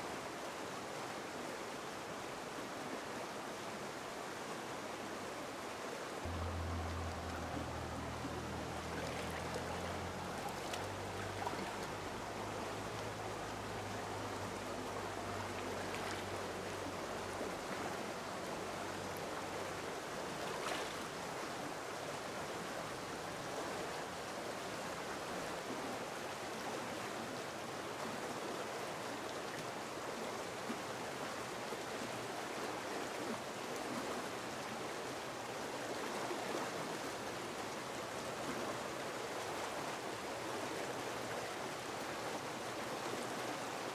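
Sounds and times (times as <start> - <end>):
stream rushing over rocks: 0.0 - 43.9
light water splashes: 5.8 - 43.9.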